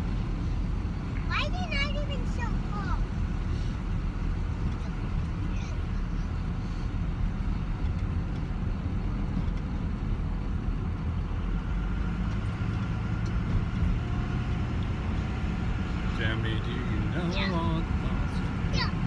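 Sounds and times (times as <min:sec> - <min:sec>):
road and engine rumble in cab: 0:00.0 - 0:19.0.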